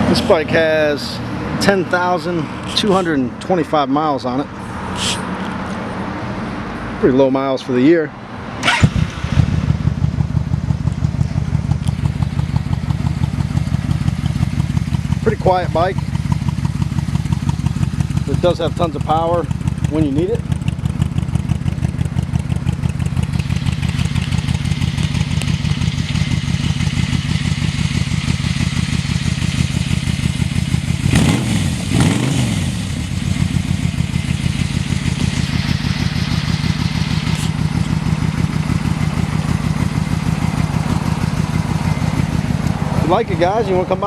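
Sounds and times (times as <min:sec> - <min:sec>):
motorcycle engine idling: 0:08.6 - 0:44.0.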